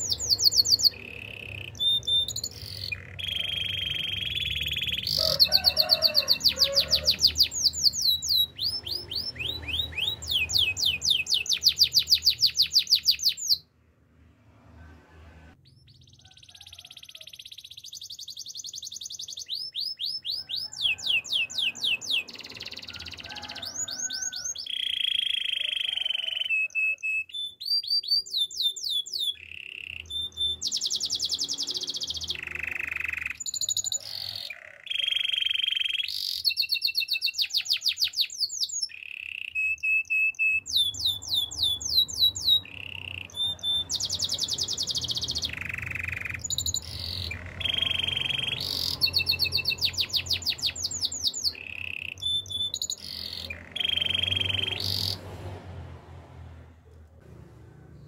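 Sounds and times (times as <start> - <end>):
canary singing: 0.0 - 13.7, 15.6 - 55.3.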